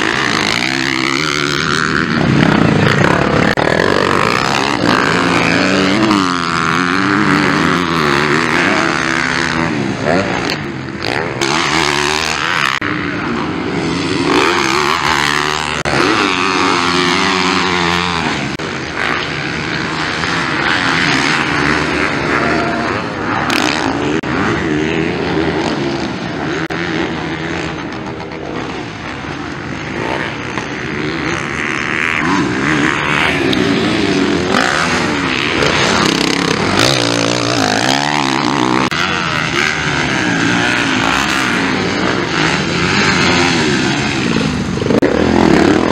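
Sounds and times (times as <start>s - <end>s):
motocross engines revving: 0.0s - 45.9s.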